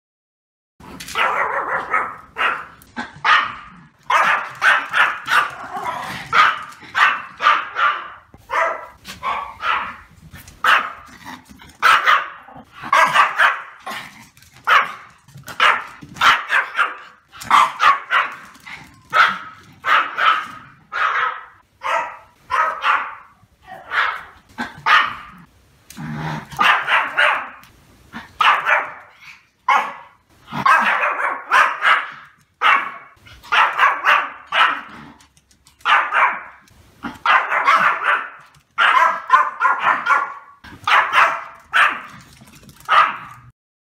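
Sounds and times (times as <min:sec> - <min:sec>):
small dog barking: 0:01.1 - 0:11.1, 0:11.8 - 0:14.0, 0:14.6 - 0:18.5, 0:19.1 - 0:25.5, 0:26.5 - 0:27.6, 0:28.3 - 0:35.0, 0:35.8 - 0:36.6, 0:37.2 - 0:42.2, 0:42.8 - 0:43.5.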